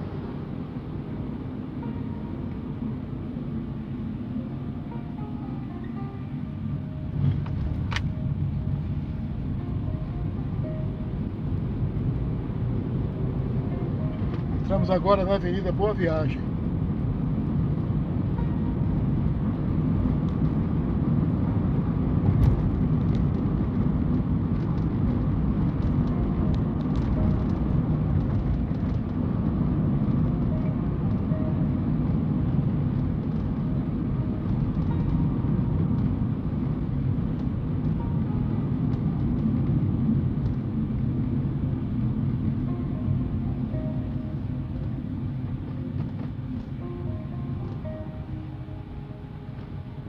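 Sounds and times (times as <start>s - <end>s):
car engine and tyre noise: 0.0s - 50.0s.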